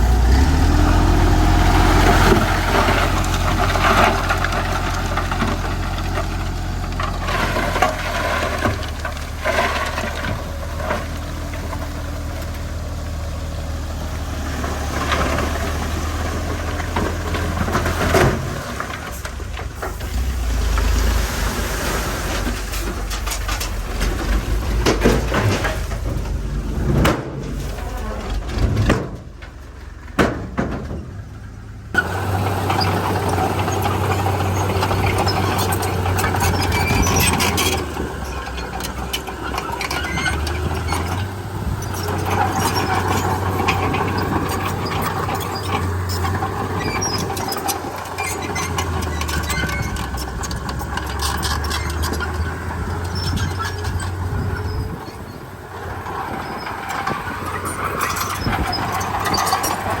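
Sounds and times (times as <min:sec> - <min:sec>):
bulldozer diesel engine running: 0:00.0 - 1:00.0.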